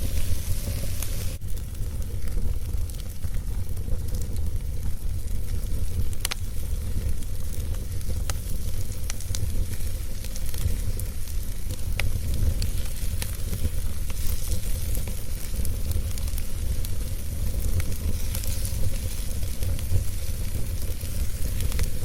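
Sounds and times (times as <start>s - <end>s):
fire low rumble and hiss: 0.0s - 22.0s
wood crackling and popping: 0.0s - 22.0s.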